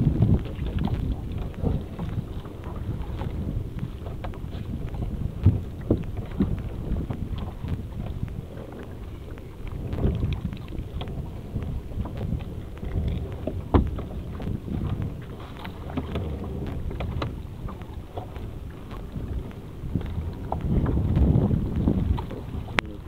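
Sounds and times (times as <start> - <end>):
net rustling and knocking on hull: 0.0 - 22.8
wind rumble on microphone: 0.0 - 23.0.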